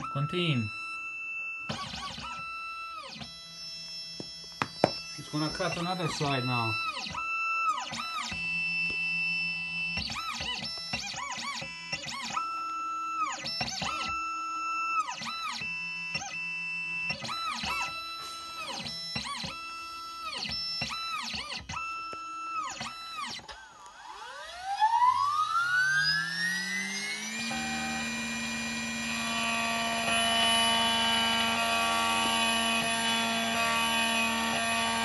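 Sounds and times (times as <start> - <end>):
cutter spindle whine: 0.0 - 35.0
stepper motors whining: 1.7 - 35.0.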